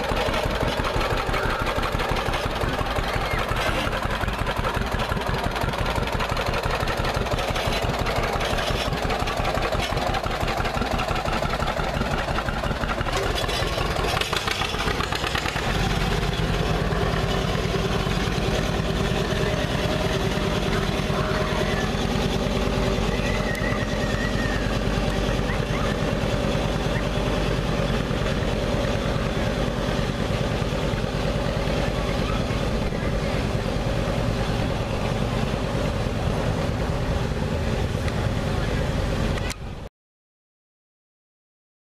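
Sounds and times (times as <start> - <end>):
tractor engine pulsing: 0.0 - 39.8
deep steady engine note: 0.0 - 39.9.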